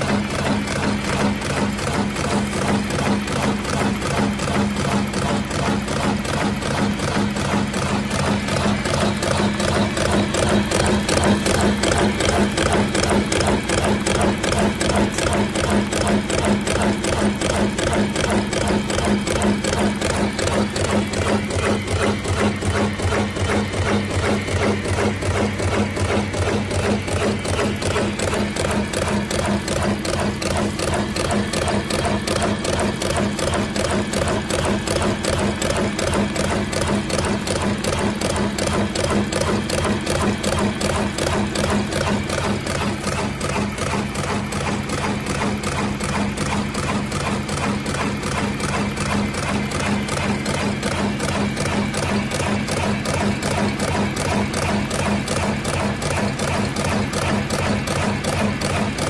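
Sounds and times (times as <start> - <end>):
motor hum: 0.0 - 59.0
rolling machine mechanism clacking: 0.0 - 59.0.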